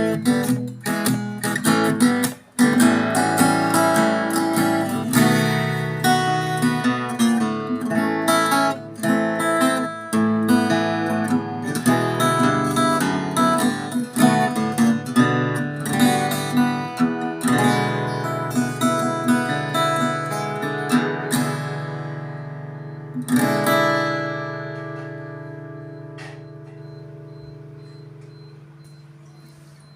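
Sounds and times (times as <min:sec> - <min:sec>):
acoustic guitar chords: 0:00.0 - 0:29.9.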